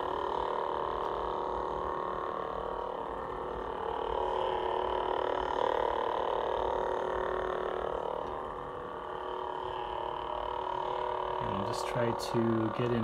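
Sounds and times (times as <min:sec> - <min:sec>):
electronic lightsaber hum: 0:00.0 - 0:13.0.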